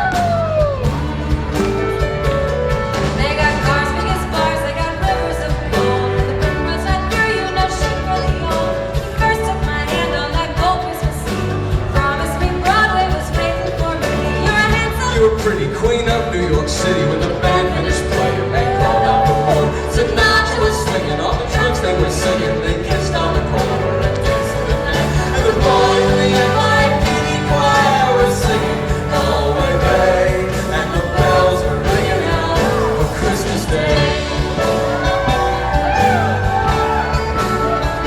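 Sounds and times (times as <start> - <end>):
bass line: 0.0 - 38.0
guitars: 0.0 - 38.0
person singing: 3.0 - 38.0.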